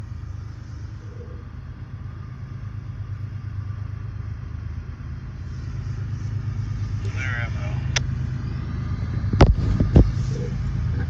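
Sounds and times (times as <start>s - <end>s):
diesel locomotive engines rumbling: 0.0s - 11.0s.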